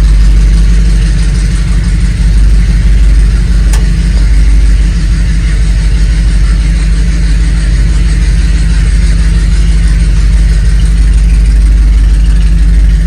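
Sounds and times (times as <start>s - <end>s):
pickup truck engine running: 0.0s - 13.0s.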